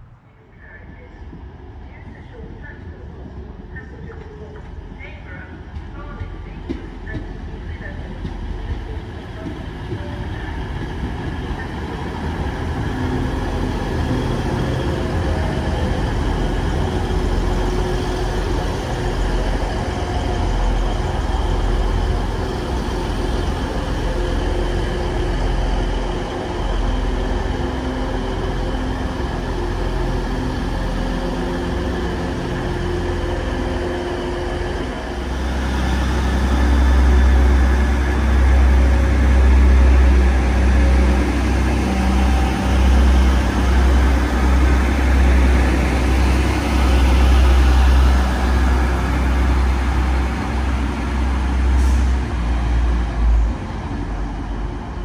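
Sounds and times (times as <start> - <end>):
diesel train engine drone: 0.0 - 55.0.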